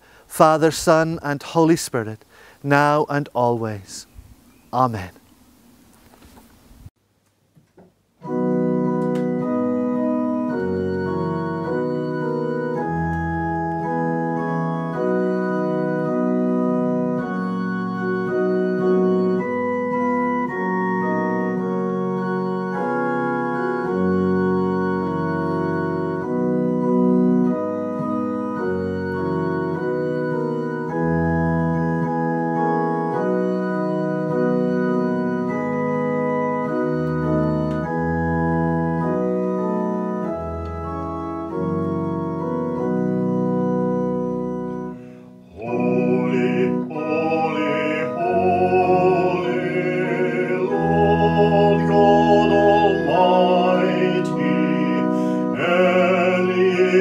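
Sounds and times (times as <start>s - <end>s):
organ chords: 0.0s - 6.8s, 7.9s - 57.0s.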